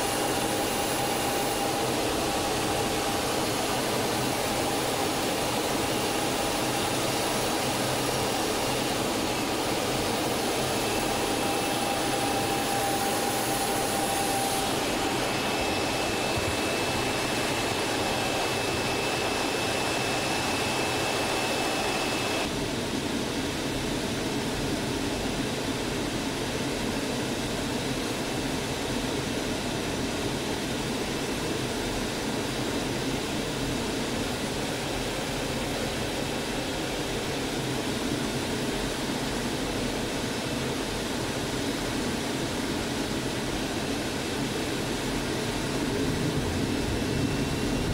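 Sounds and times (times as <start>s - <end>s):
jet engine noise in cockpit: 0.0s - 47.9s.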